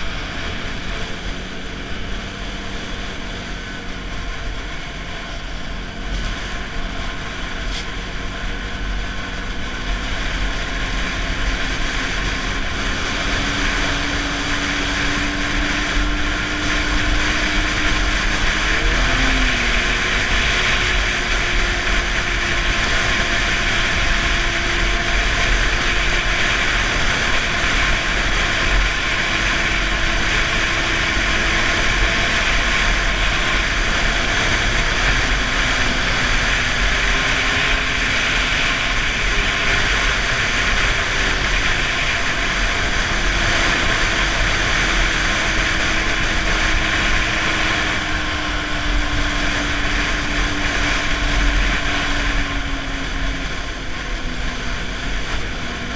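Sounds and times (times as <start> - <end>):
snowmobile engine running: 0.0 - 55.9
snowmobile track noise: 0.0 - 55.9.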